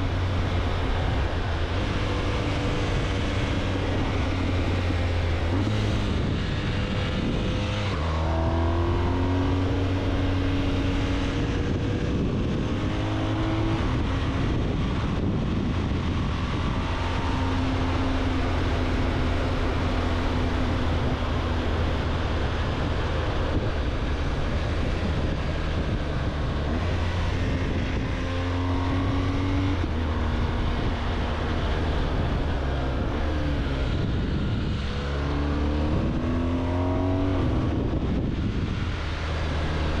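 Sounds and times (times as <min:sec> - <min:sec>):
motorcycle engine revving: 0:00.0 - 0:40.0
wind and road noise: 0:00.0 - 0:40.0.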